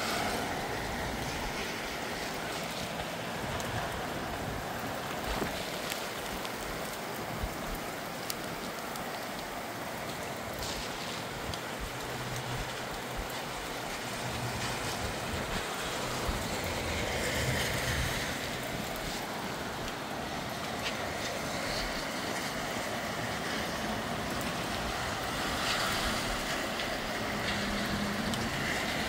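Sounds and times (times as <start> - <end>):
blustery wind: 0.0 - 29.0
raindrops tapping close by: 0.0 - 29.0
steady rain: 0.0 - 29.0.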